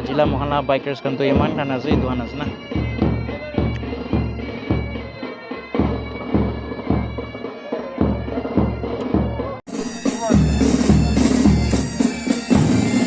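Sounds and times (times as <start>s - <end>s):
bagpipes playing melody: 0.0s - 13.0s.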